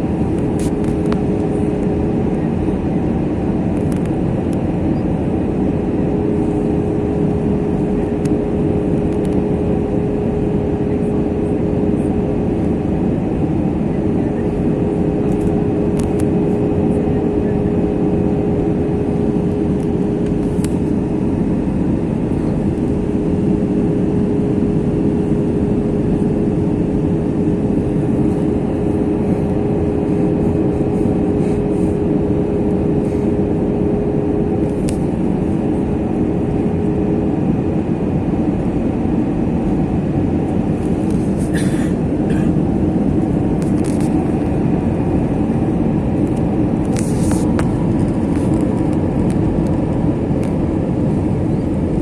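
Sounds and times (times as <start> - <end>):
airliner cabin engine roar: 0.0 - 52.0
steady hum: 0.0 - 52.0.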